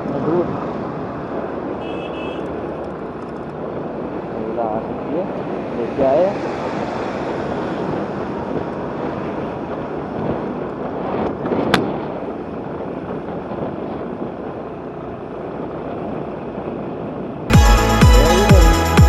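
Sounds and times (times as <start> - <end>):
wind and road noise from scooter: 0.0 - 17.5.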